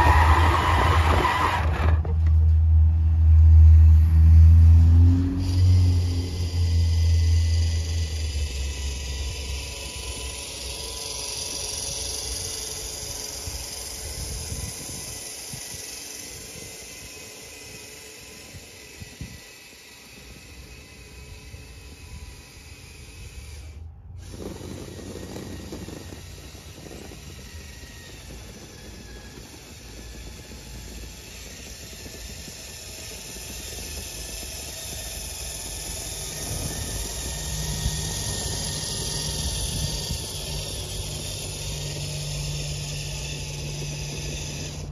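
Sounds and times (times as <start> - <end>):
toy truck motor and gear whine: 0.0 - 44.9.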